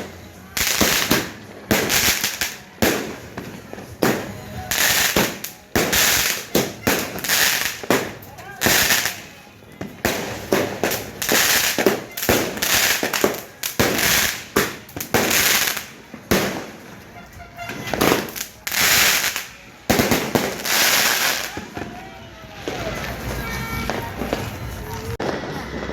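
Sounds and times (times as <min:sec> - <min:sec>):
crackle of fireworks: 0:00.0 - 0:25.9
fireworks and firecrackers banging: 0:00.0 - 0:25.9.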